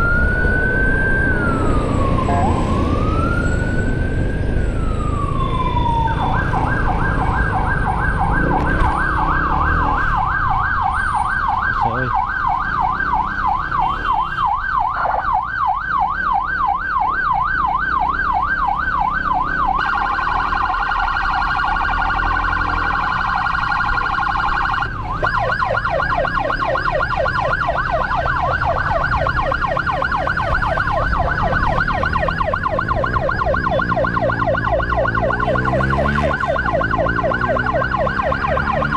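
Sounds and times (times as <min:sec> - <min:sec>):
electronic emergency siren: 0:00.0 - 0:38.9
road traffic rumble: 0:00.0 - 0:38.9
wind: 0:00.0 - 0:38.9.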